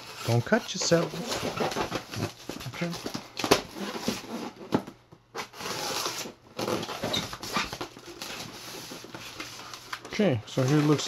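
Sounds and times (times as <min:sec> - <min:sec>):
tape and foam scraping: 0:00.0 - 0:11.0.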